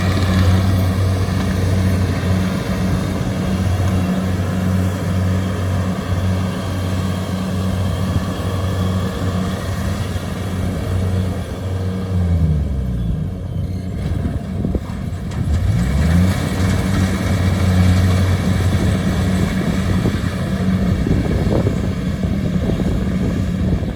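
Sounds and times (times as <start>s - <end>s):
combine harvester diesel engine humming: 0.0s - 23.9s.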